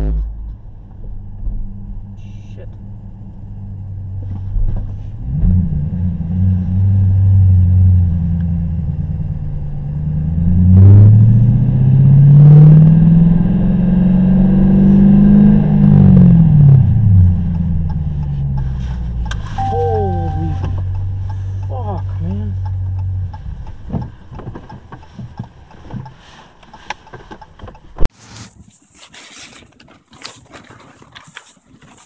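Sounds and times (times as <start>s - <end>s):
car engine revving: 0.0s - 26.4s
road noise: 0.0s - 28.1s.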